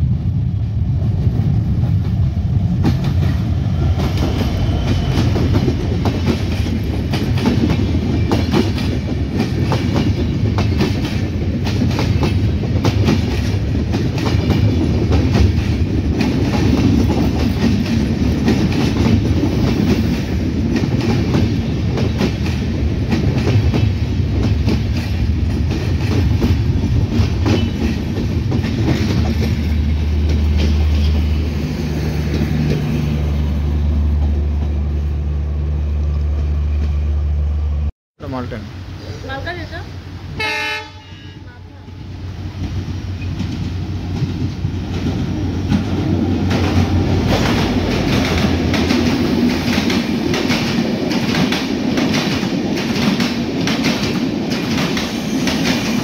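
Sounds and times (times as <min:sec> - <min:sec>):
train coaches rumbling past: 0:00.0 - 0:56.0.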